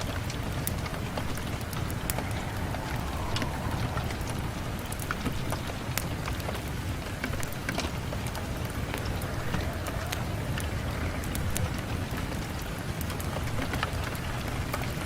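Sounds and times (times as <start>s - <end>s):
rain on a window: 0.0s - 15.0s
raindrops ticking: 0.0s - 15.0s.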